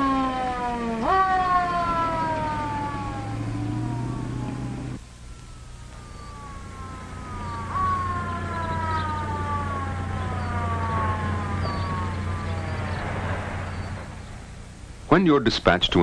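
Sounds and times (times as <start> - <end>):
police siren wailing: 0.0 - 14.5
low hum: 0.0 - 16.0.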